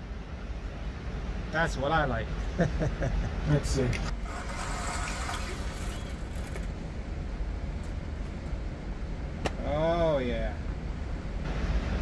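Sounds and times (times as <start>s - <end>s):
low mechanical rumble of machinery: 0.0s - 12.0s.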